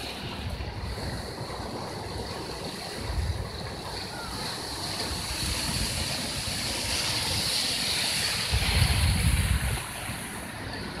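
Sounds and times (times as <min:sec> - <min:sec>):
low rumble of surf: 0:00.0 - 0:11.0
surf breaking on rocky shore: 0:00.0 - 0:11.0.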